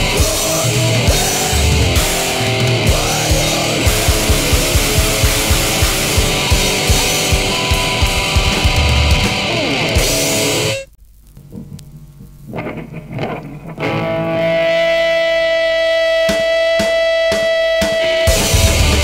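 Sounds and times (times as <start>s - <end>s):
distorted guitar: 0.0s - 19.0s
drums beating: 0.0s - 19.0s.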